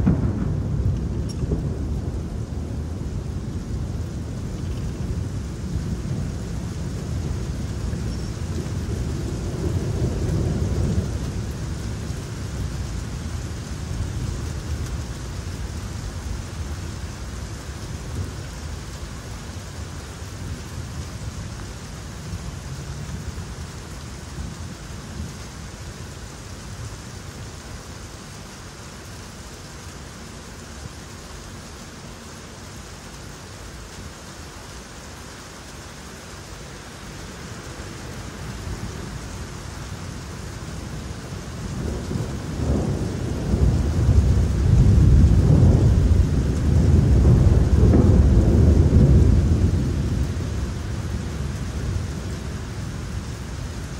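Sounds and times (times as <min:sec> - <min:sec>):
thunder rumbling: 0:00.0 - 0:26.5, 0:37.0 - 0:53.9
steady rain falling: 0:00.0 - 0:53.9.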